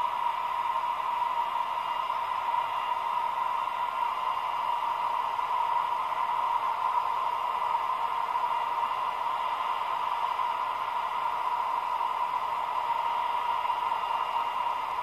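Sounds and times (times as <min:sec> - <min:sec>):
diesel locomotive engine through small speaker: 0:00.0 - 0:15.0.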